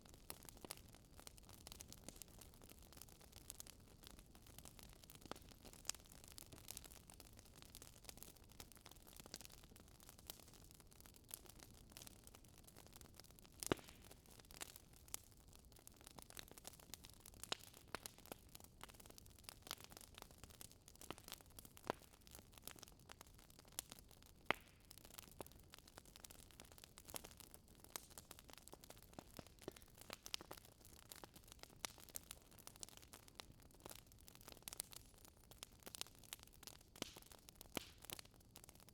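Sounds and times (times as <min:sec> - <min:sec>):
fire crackling in fireplace: 0:00.0 - 0:38.9.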